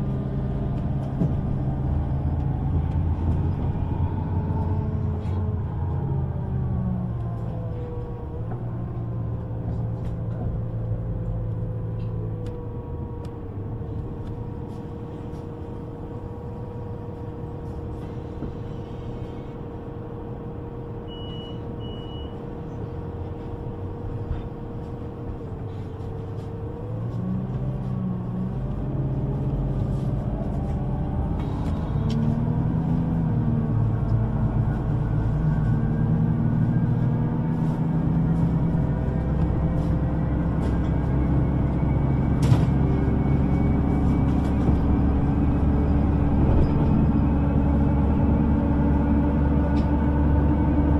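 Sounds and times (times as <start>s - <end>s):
bus engine: 0.0s - 50.9s.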